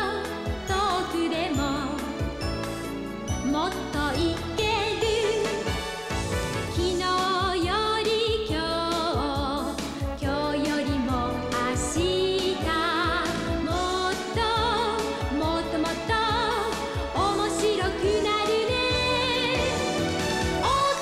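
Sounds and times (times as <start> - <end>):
upbeat pop song with singing: 0.0 - 21.0.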